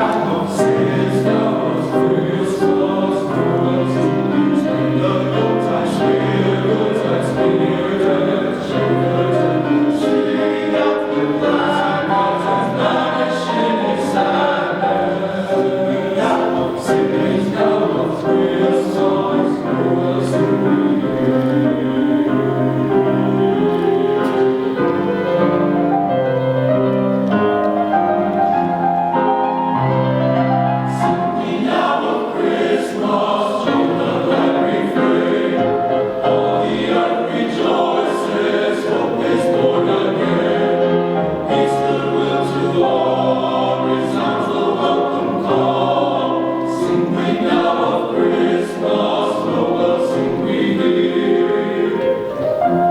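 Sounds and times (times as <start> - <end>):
men's chorus singing in harmony: 0.0 - 26.0, 30.7 - 52.9.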